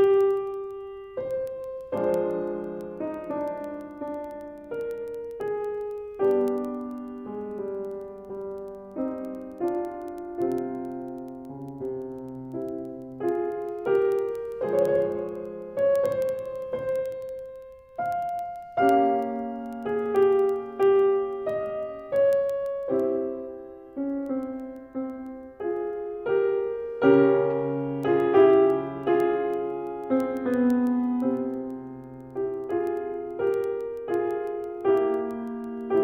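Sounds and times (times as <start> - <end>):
solo piano music: 0.0 - 36.0.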